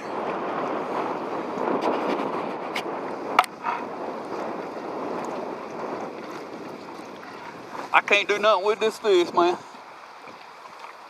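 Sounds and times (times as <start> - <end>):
water lapping against hull: 0.0 - 11.0
wind buffeting microphone: 0.0 - 11.0.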